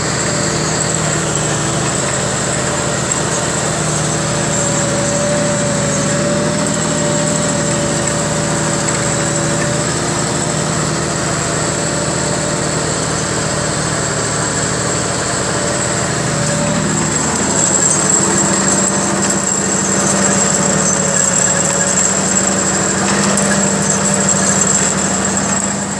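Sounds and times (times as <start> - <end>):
tractor engine running under load: 0.0 - 25.9.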